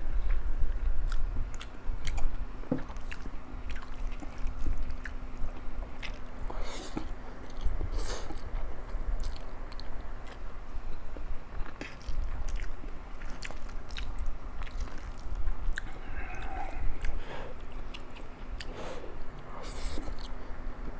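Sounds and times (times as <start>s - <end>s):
chewing food: 0.2s - 20.9s.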